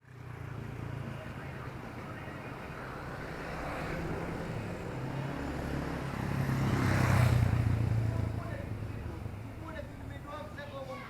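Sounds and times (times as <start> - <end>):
vehicle engine hum passing: 0.0 - 10.3.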